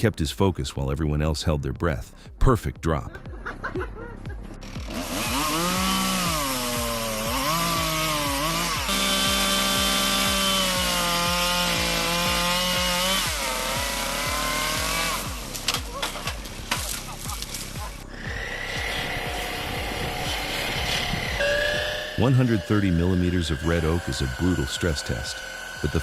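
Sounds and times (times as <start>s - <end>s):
chainsaw cutting wood: 4.6s - 26.0s.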